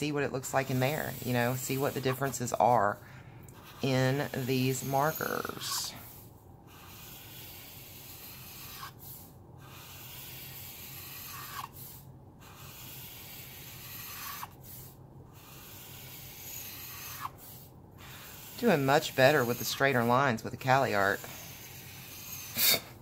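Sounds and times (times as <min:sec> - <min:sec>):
marker nib scratching paper: 0:00.2 - 0:03.0, 0:03.6 - 0:14.6, 0:15.3 - 0:22.5.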